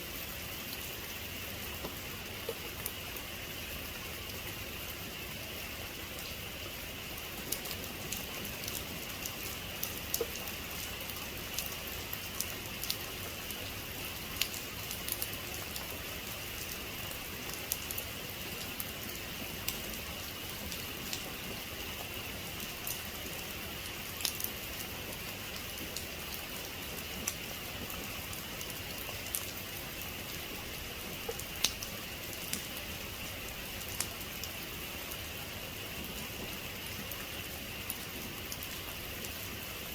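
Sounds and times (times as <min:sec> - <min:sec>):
raindrops ticking on a surface: 0:00.2 - 0:39.9.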